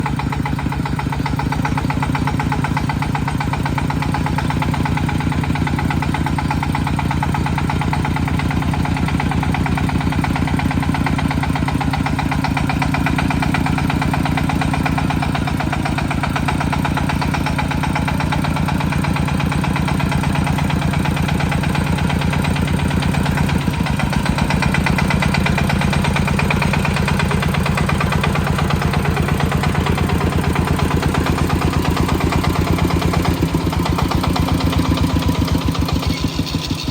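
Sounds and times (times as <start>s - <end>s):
tractor engine chugging: 0.0s - 36.9s.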